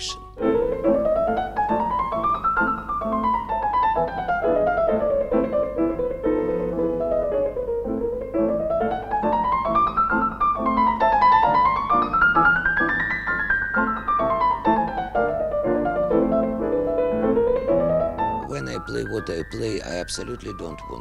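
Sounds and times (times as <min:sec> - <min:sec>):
classical piano runs: 0:00.2 - 0:21.0.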